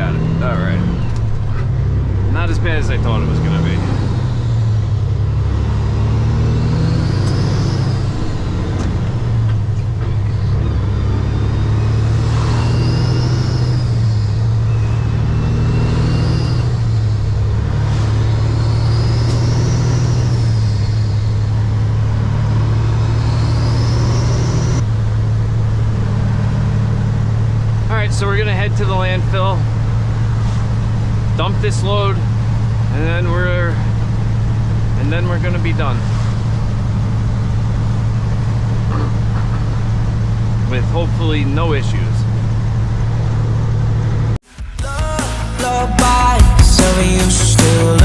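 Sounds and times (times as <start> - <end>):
truck diesel engine droning: 0.0 - 48.0.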